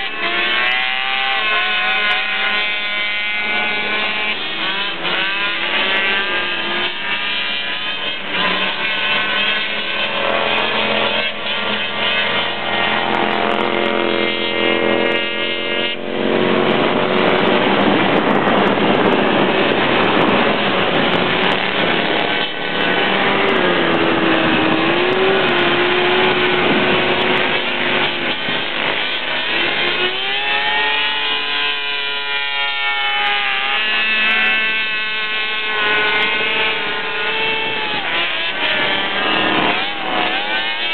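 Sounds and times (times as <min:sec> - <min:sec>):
atv engines racing: 0:00.0 - 0:40.9.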